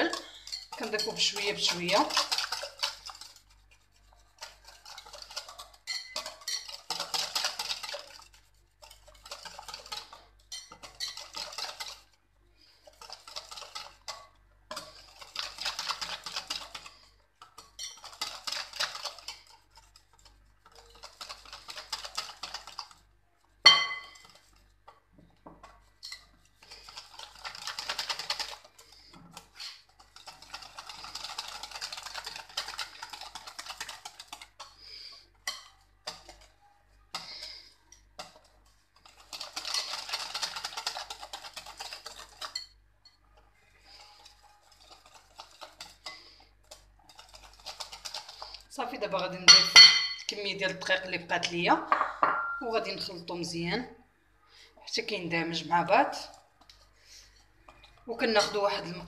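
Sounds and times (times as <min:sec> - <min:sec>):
whisk beating batter in bowl: 0:00.0 - 0:53.8, 0:54.9 - 0:59.0.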